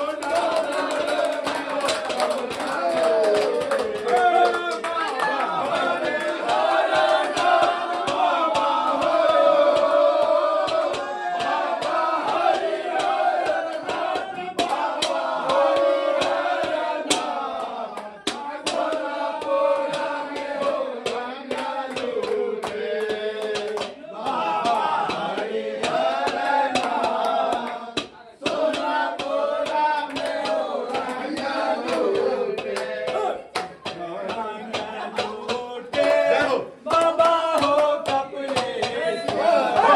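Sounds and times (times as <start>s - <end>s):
group of men singing and chanting: 0.0s - 39.9s.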